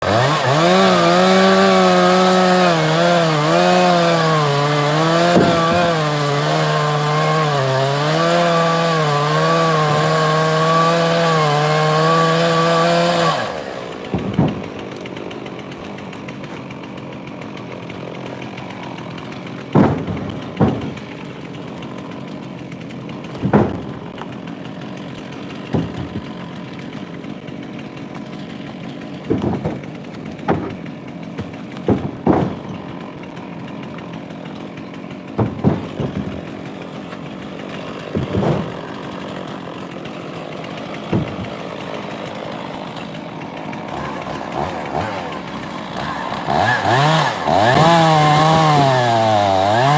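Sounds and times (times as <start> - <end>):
chainsaw cutting wood: 0.0 - 49.9
heavy thuds of wood rounds: 0.0 - 49.9.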